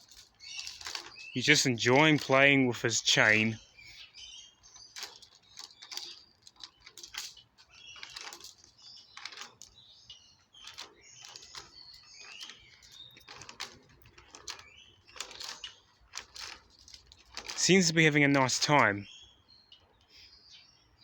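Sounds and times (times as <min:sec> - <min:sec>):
metal chain clinking and rattling: 0:00.0 - 0:03.6, 0:04.6 - 0:19.0.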